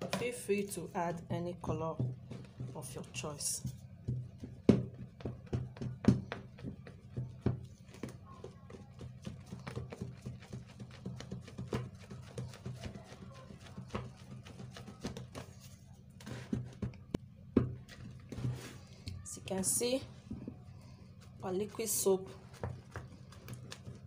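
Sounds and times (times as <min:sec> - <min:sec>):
wooden spoon stirring soap in bowl: 0:00.0 - 0:24.0.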